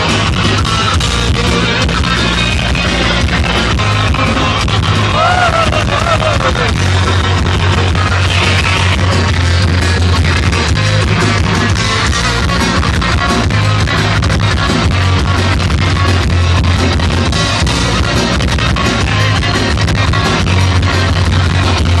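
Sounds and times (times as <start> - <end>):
thrash metal band playing live: 0.0 - 22.0.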